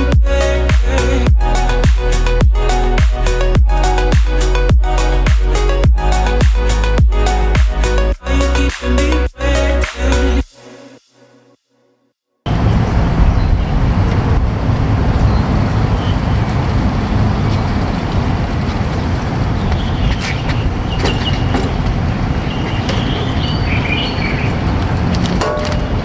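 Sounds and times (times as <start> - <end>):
road traffic rumble: 0.0 - 10.4, 12.5 - 26.0.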